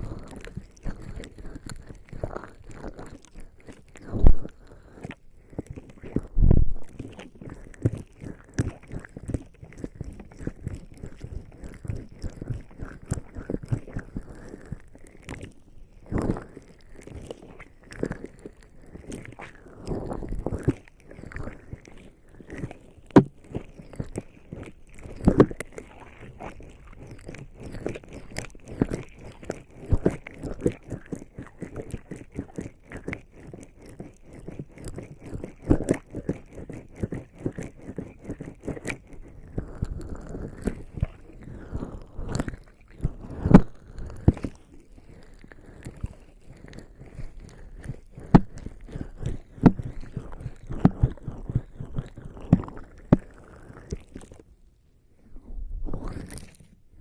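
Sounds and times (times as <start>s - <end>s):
wet skin rubbing on microphone: 0.0s - 54.4s, 55.2s - 57.0s.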